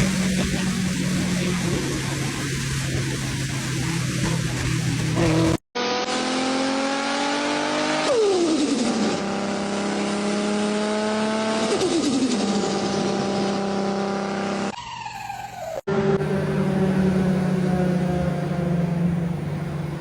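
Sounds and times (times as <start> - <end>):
car engine accelerating hard: 0.0 - 14.7, 15.9 - 20.0.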